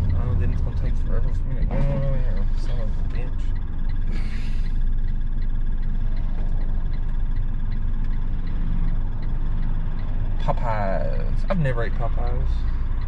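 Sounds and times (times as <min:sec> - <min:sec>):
engine and road rumble: 0:00.0 - 0:13.0
turn signal ticking: 0:00.0 - 0:13.0.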